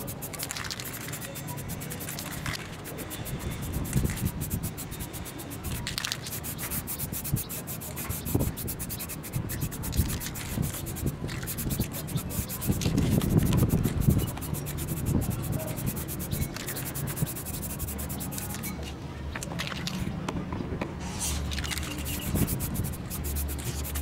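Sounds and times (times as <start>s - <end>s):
aerosol spray can hissing: 0.0s - 18.6s, 21.8s - 24.0s.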